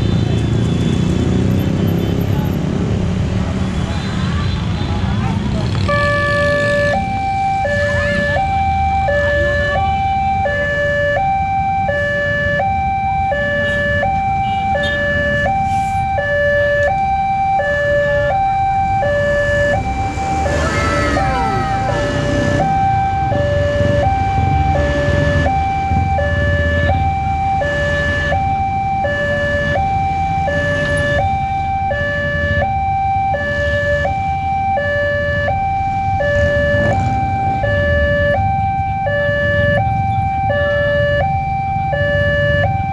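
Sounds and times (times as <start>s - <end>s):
traffic engines rumbling: 0.0s - 42.9s
level crossing two-tone alarm: 5.9s - 42.9s.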